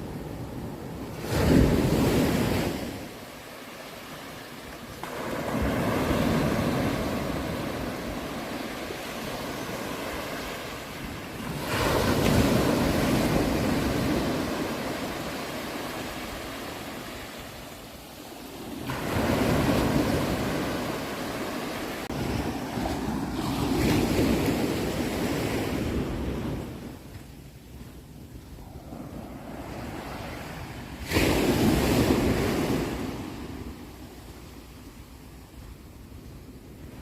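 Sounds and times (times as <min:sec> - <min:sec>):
ocean waves breaking on shore: 0:00.0 - 0:27.3, 0:28.4 - 0:37.0.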